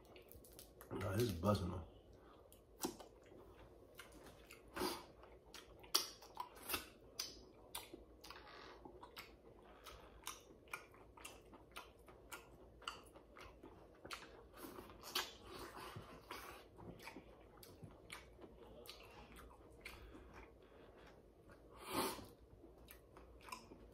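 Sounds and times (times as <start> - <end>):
chewing and lip smacking: 2.2 - 23.9.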